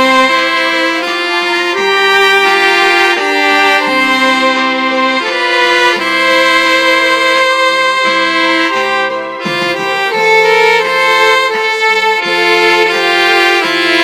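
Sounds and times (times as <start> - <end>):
digital wind instrument duet: 0.0 - 14.0.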